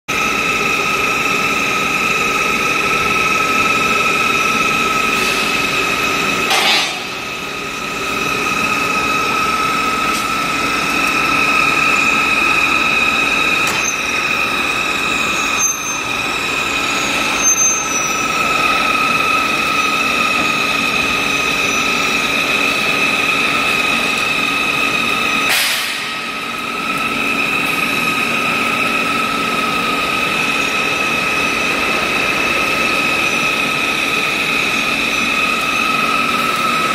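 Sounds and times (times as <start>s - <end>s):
high machine whine: 0.1s - 36.9s
industrial machine running: 0.1s - 36.9s.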